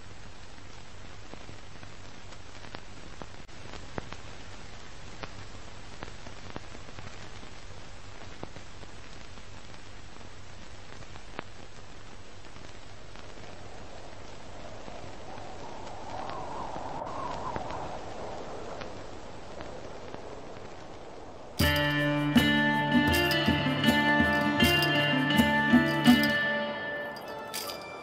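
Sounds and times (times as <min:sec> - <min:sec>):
steady hiss: 0:00.0 - 0:27.3.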